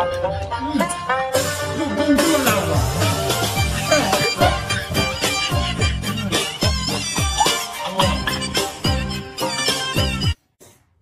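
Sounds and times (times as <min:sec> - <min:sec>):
background music: 0:00.0 - 0:10.4.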